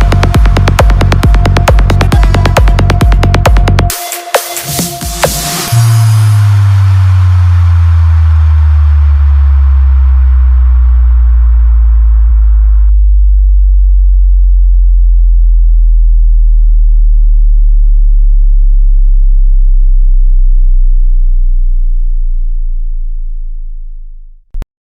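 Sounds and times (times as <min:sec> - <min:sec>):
deep bass test tone: 0:00.0 - 0:03.9, 0:05.1 - 0:24.7
electronic bass music: 0:00.0 - 0:24.6.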